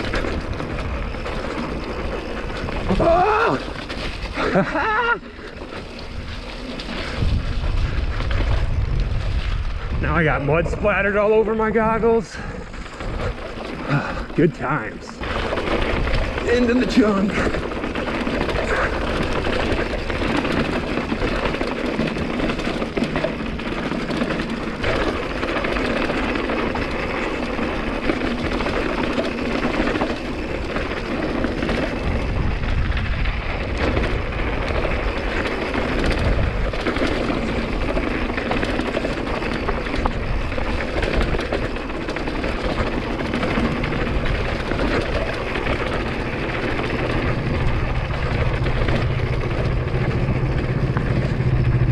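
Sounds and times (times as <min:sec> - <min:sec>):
wind buffeting microphone: 0:00.0 - 0:14.4, 0:15.2 - 0:51.9
bike rattling over rocks: 0:00.0 - 0:51.9
bike tyre noise: 0:00.0 - 0:51.9.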